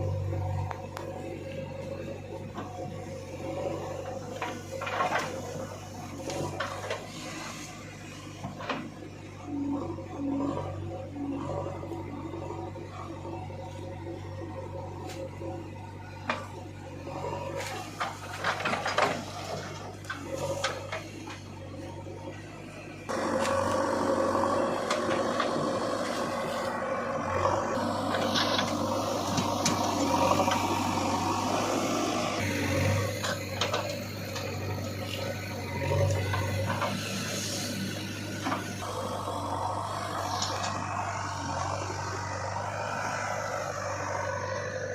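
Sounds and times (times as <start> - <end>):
backhoe motor humming: 0.0 - 44.9
engine running steadily: 0.0 - 44.9.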